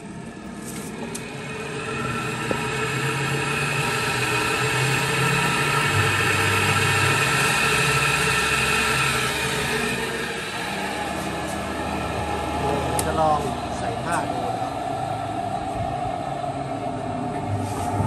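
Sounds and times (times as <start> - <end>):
spin-dryer motor humming: 0.0 - 18.0.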